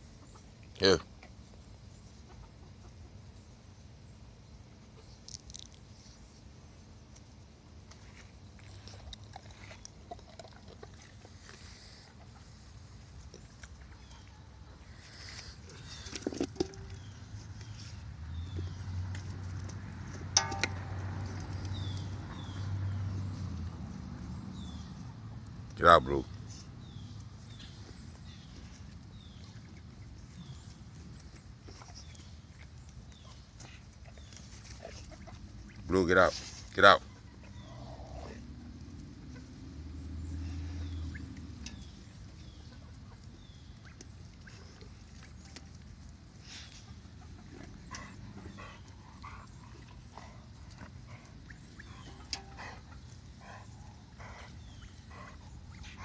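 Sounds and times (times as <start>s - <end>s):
poultry peeping: 0.0s - 5.2s, 8.0s - 20.6s, 21.2s - 56.0s.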